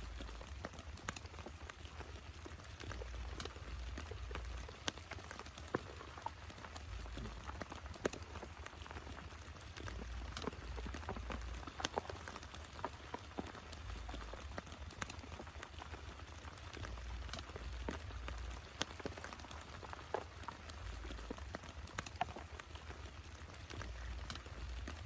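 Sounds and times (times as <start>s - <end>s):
rain falling: 0.0s - 25.0s
raindrops striking close by: 0.0s - 25.0s.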